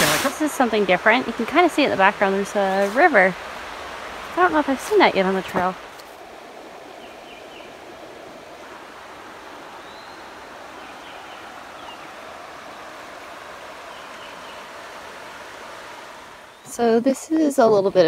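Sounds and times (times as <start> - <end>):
river flowing over rocks: 0.0 - 16.9.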